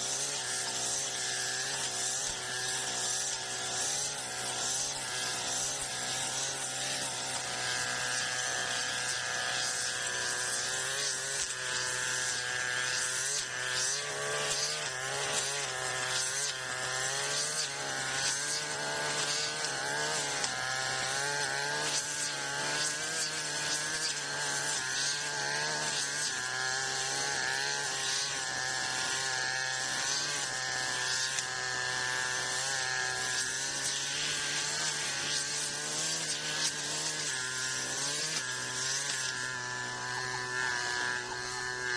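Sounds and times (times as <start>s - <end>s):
brush cutter engine running: 0.0s - 41.9s
crackling of grass cutting: 0.0s - 41.9s.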